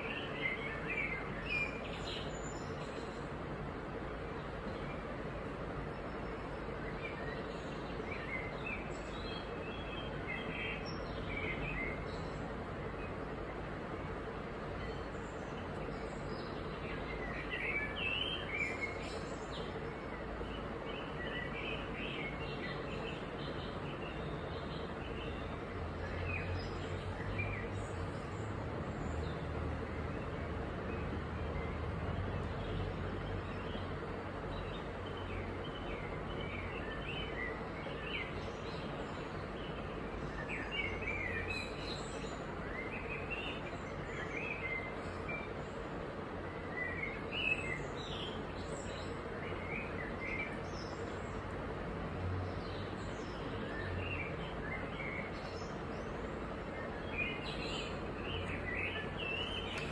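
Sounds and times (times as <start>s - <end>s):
small birds chirping: 0.0s - 59.9s
steady background hiss: 0.0s - 59.9s.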